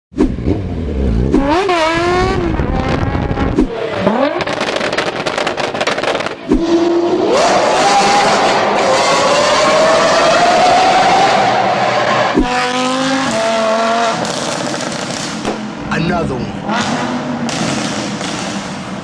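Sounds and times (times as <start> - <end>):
vehicle engines revving: 0.2 - 19.0.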